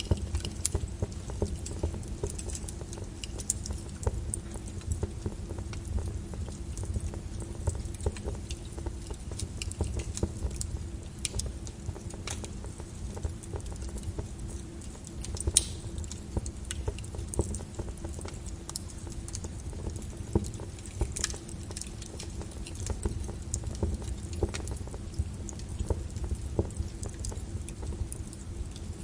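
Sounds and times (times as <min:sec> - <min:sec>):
lava crackling and popping: 0:00.0 - 0:29.0.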